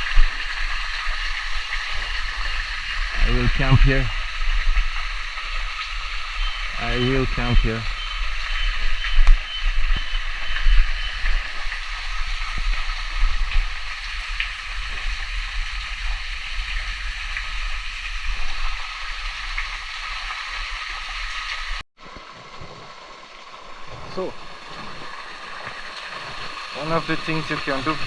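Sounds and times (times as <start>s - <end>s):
waterfall splashing: 0.0s - 28.0s.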